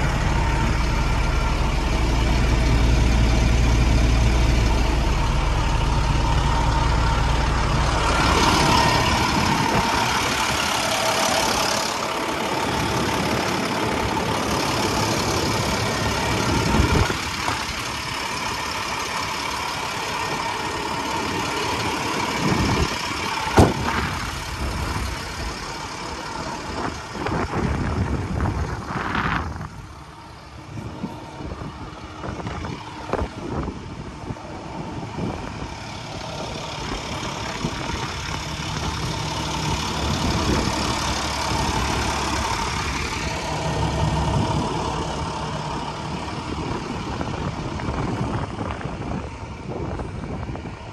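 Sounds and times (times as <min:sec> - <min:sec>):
truck engine idling: 0:00.0 - 0:50.9.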